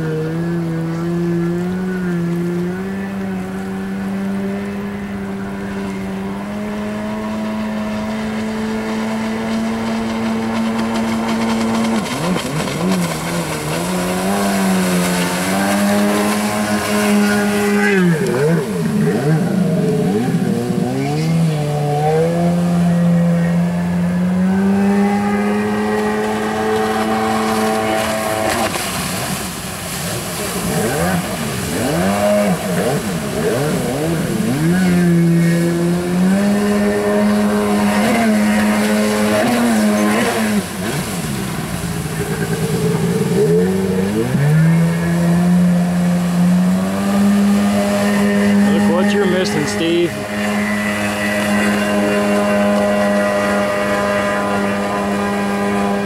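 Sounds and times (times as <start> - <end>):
jet ski engine whine: 0.0 - 56.0.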